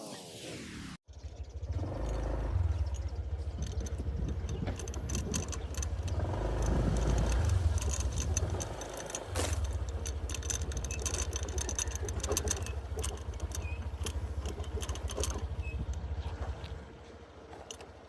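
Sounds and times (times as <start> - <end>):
small motorcycle engine putter: 1.3 - 18.0
light clicking and rattling: 1.8 - 18.0.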